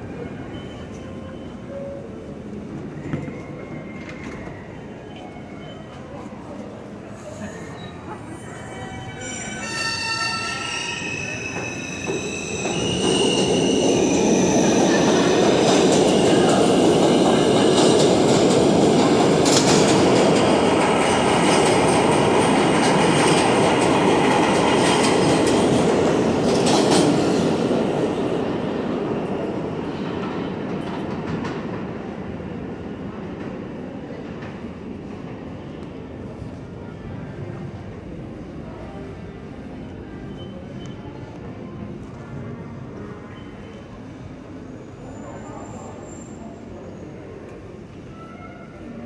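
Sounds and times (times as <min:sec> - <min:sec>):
subway train wheels rumbling: 0:00.0 - 0:49.0.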